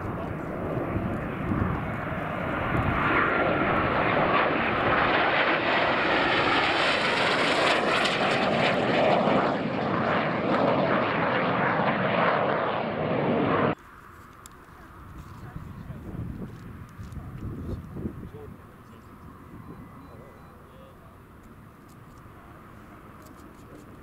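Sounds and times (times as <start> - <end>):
low-flying aircraft engine: 0.0 - 24.0.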